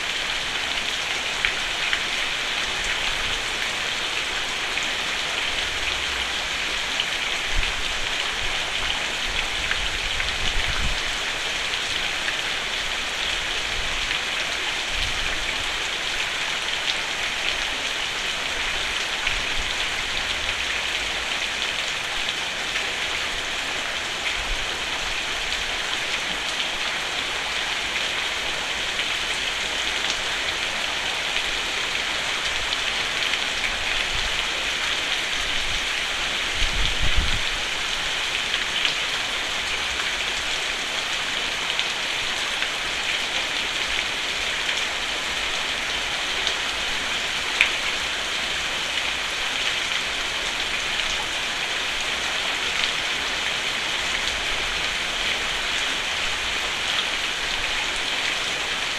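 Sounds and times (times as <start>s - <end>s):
rain on a roof: 0.0s - 58.9s.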